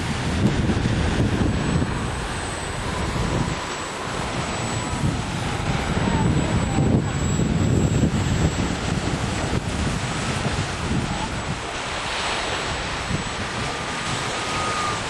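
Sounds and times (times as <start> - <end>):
model airplane motor whining: 0.0 - 15.0
wind noise on microphone: 0.0 - 15.0.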